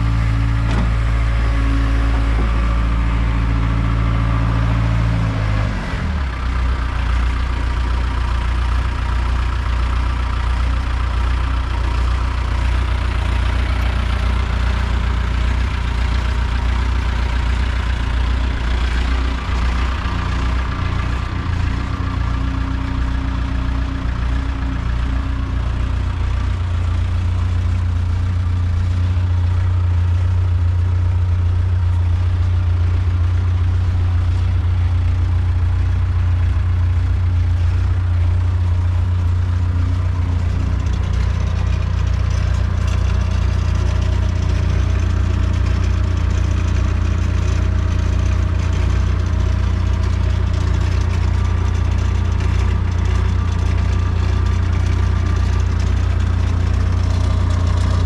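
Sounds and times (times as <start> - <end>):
skid steer engine idling: 0.0 - 58.0.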